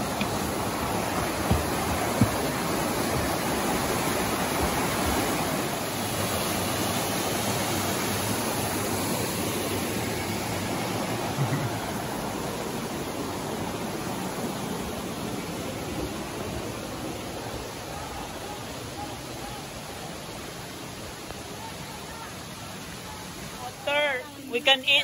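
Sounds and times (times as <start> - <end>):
water rushing over stones: 0.0 - 25.0.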